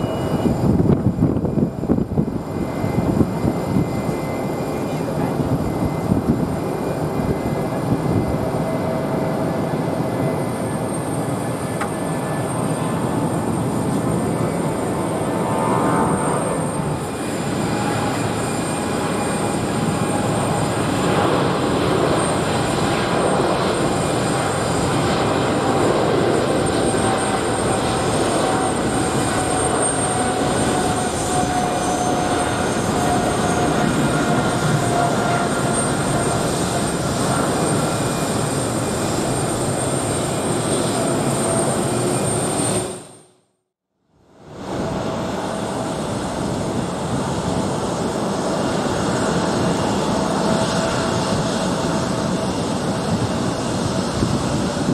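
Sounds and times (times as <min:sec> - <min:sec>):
jet engines roaring at takeoff: 0:00.0 - 0:43.4, 0:44.1 - 0:54.9.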